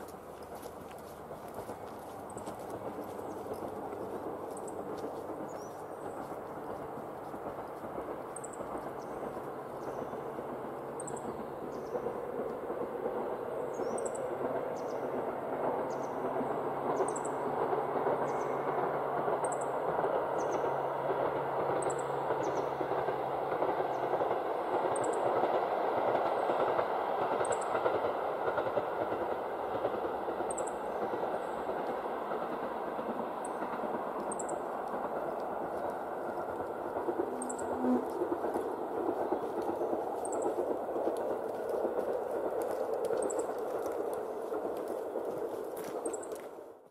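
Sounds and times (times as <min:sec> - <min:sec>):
diesel railcar rumble: 0:00.0 - 0:46.8.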